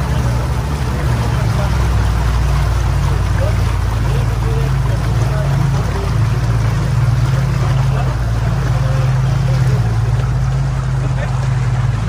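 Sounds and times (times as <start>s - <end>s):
motorboat engine droning: 0.0s - 12.0s
water rushing from wake: 0.0s - 12.0s.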